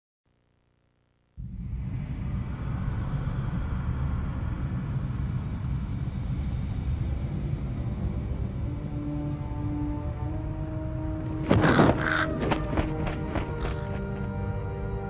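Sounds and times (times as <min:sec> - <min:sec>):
aircraft rumble in flight: 0:01.4 - 0:15.0.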